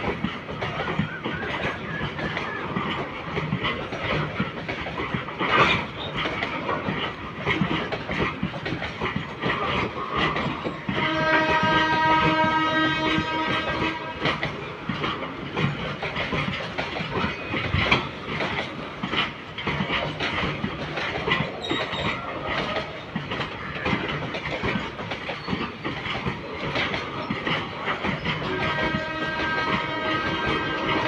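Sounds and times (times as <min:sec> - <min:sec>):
freight wagon wheels clattering: 0:00.0 - 0:31.0.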